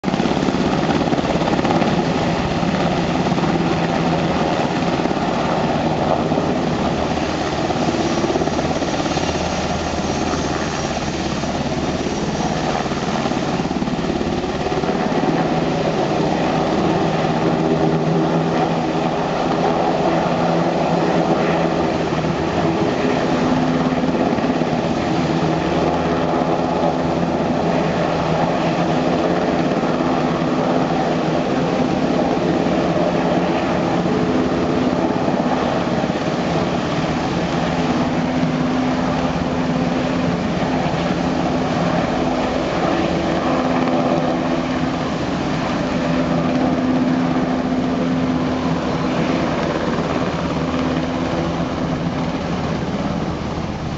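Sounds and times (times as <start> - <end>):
helicopter rotors and engines: 0.0 - 53.9.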